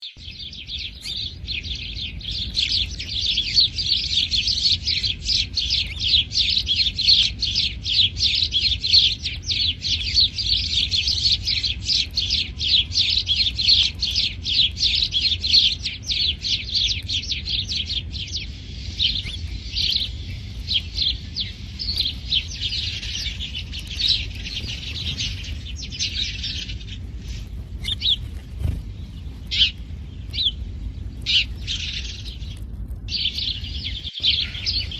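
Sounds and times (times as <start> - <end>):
sparrows chirping: 0.0 - 34.9.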